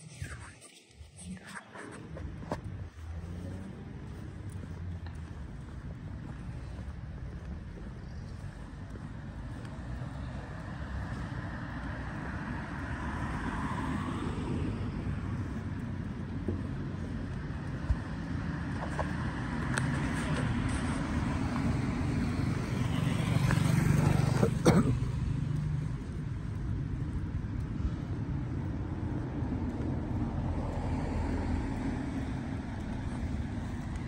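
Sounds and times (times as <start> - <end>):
cars driving past: 1.9 - 34.0.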